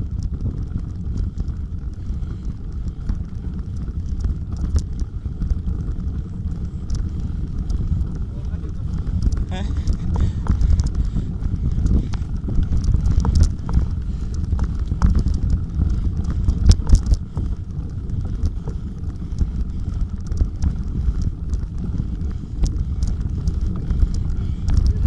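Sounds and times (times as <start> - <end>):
bicycle rumbling over rough track: 0.0 - 25.0
wind on microphone: 0.0 - 25.0.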